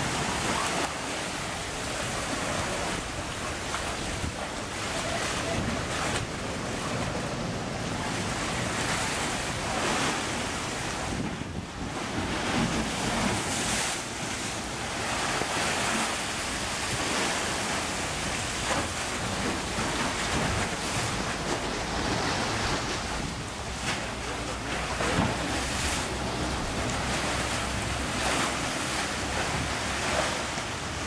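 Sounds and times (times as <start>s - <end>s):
sea swells surging into rocks: 0.0s - 31.0s.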